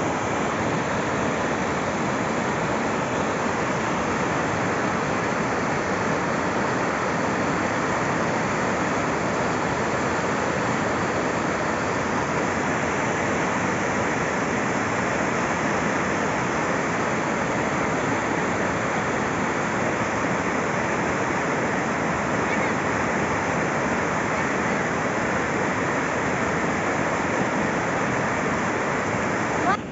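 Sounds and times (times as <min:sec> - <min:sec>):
river water rushing: 0:00.0 - 0:29.9.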